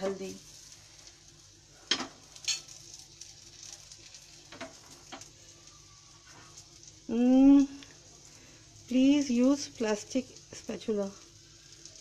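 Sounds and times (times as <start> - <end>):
faint oil sizzle: 0.0 - 12.0.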